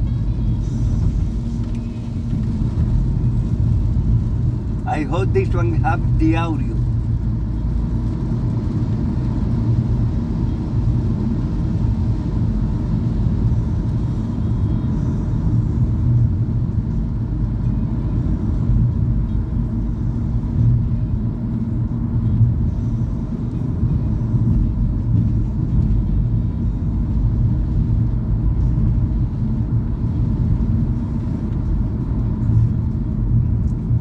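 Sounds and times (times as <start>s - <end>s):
car interior road rumble: 0.0s - 34.0s.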